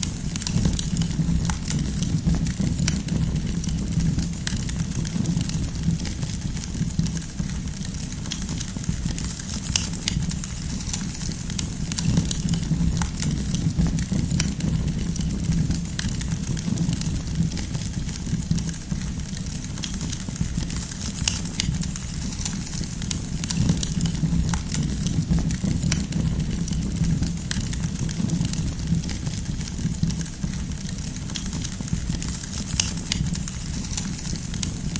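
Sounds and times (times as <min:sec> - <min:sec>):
firewood pops and crackles: 0:00.0 - 0:34.9
low rumble of flames: 0:00.0 - 0:34.9.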